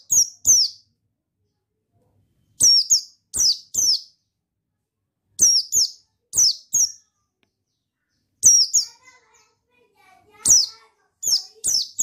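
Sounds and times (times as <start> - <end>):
bird high chirps: 0.0 - 1.6, 2.3 - 4.4, 5.3 - 9.6, 10.3 - 12.0.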